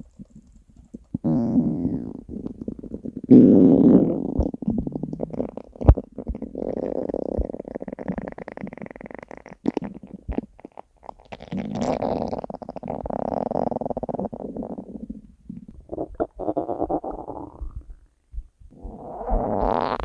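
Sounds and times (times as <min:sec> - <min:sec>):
stomach growling and gurgling: 0:00.0 - 0:18.1, 0:18.7 - 0:20.0.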